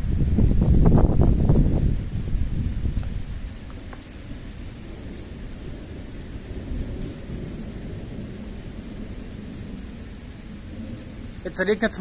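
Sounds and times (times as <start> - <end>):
light rain falling: 0.0 - 12.0
thunder rumble: 0.0 - 12.0.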